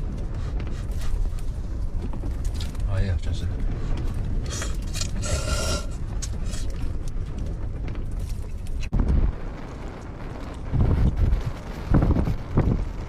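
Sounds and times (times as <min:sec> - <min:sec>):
gale wind buffeting microphone: 0:00.0 - 0:13.0.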